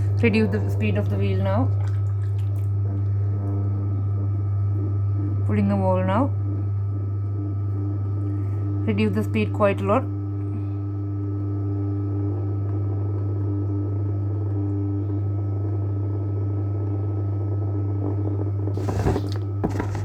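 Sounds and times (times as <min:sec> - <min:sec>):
pottery wheel motor humming: 0:00.0 - 0:20.0.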